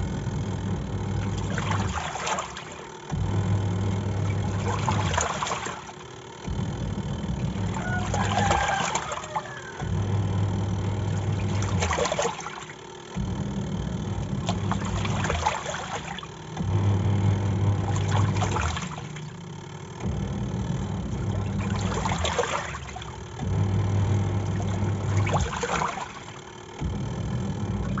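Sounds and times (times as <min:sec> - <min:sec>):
washing machine motor humming: 0:00.0 - 0:28.0
water and clothes sloshing: 0:01.2 - 0:13.4, 0:14.2 - 0:19.4, 0:21.0 - 0:28.0.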